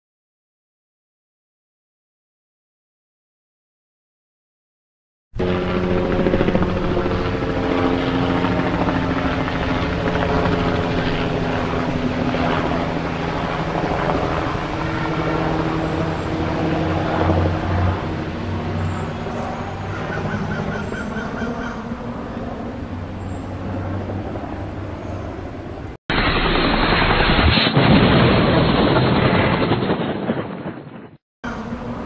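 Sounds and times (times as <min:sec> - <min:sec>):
helicopter flying low: 0:05.4 - 0:32.0.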